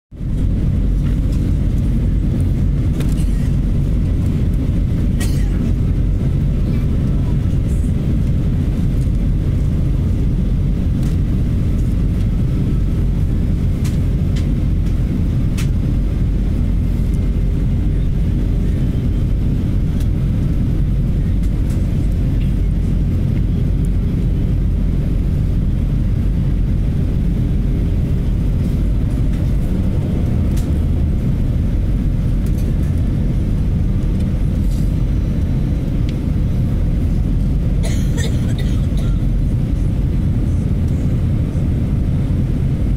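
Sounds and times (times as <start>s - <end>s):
jet engine cabin rumble: 0.1s - 42.9s.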